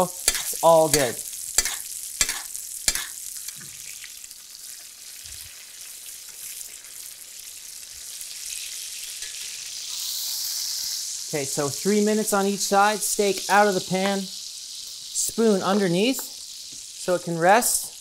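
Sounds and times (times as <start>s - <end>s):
butter sizzling in a skillet: 0.0s - 18.0s.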